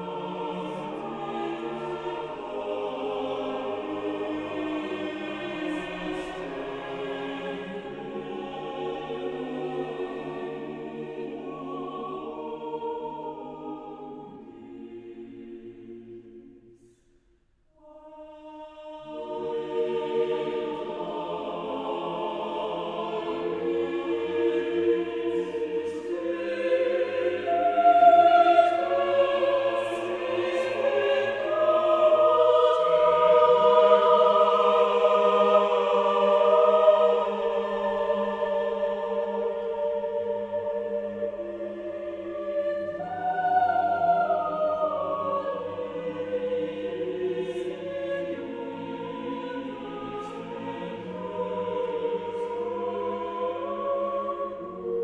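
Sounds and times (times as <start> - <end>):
choral singing: 0.0 - 55.0.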